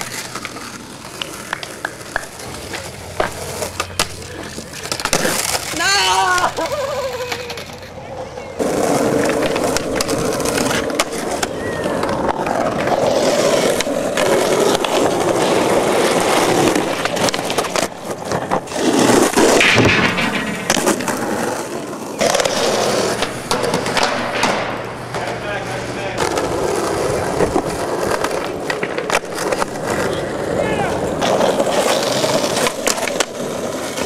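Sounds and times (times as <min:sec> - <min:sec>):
skateboard clacking: 0:00.0 - 0:34.0
skateboard wheels rolling on concrete: 0:00.0 - 0:34.0.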